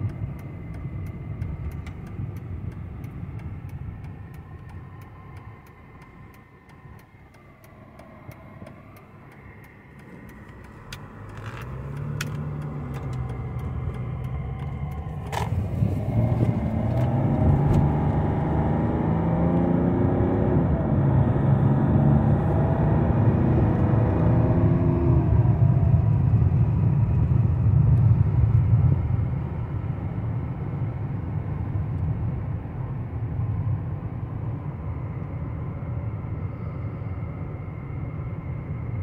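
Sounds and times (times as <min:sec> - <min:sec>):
car engine drone: 0:00.0 - 0:39.0
road and tyre noise: 0:00.0 - 0:39.0.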